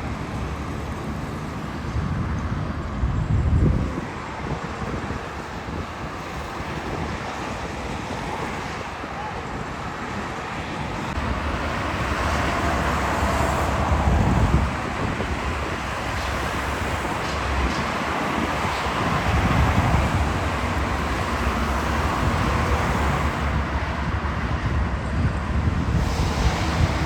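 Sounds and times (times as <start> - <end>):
road traffic hiss: 0.0 - 27.0
wind buffeting microphone: 0.0 - 27.0.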